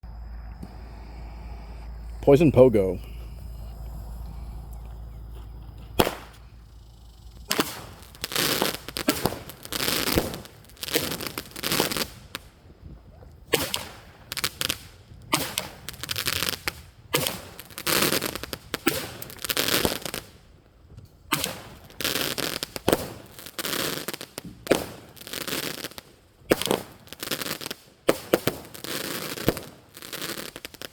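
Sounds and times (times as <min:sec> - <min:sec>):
firework bangs and pops: 0:05.4 - 0:30.9.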